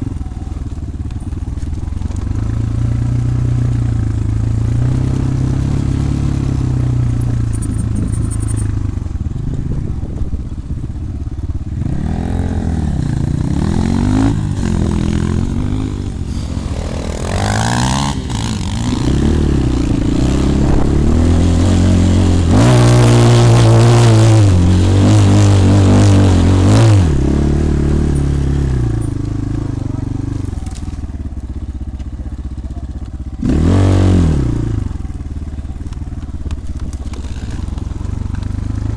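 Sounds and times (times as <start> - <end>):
dirt bike engine revving: 1.4 - 10.3, 11.5 - 38.9.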